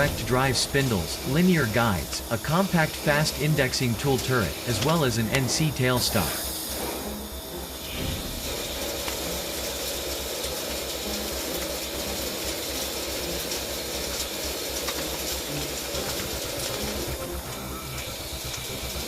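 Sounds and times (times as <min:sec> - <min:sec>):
lathe running with hiss: 0:00.0 - 0:19.0.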